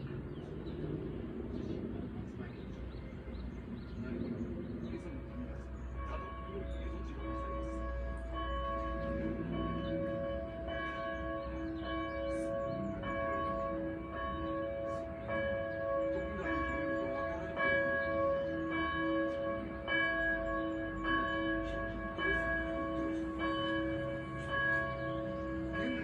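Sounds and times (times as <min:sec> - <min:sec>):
church bell ringing: 0:04.8 - 0:26.0.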